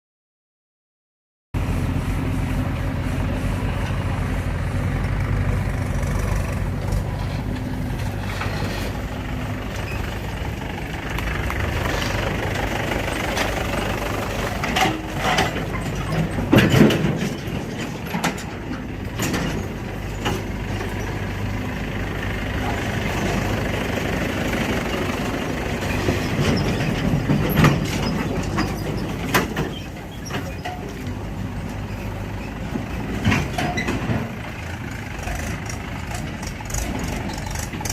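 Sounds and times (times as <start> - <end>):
diesel engine running: 1.6 - 37.9.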